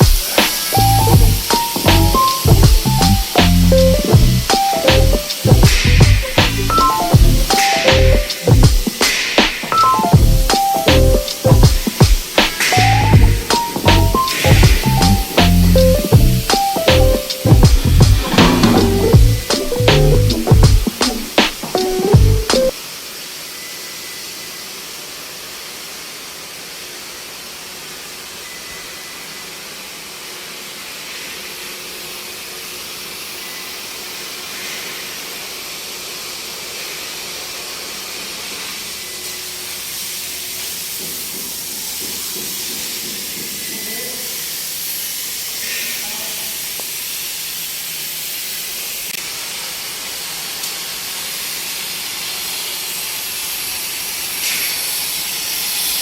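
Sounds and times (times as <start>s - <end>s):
plasma torch hissing: 0.0s - 56.0s.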